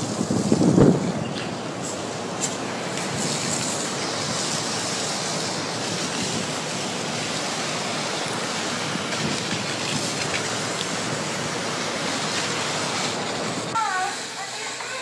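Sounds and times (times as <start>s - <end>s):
fire extinguishers hissing: 0.0s - 15.0s.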